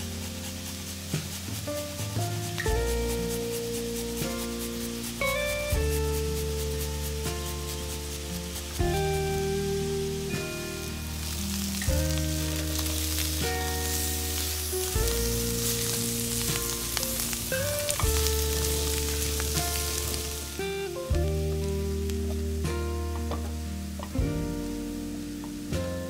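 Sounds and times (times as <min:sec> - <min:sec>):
food sizzling in frying pan: 0:00.0 - 0:26.0
music of long held notes: 0:00.0 - 0:26.0.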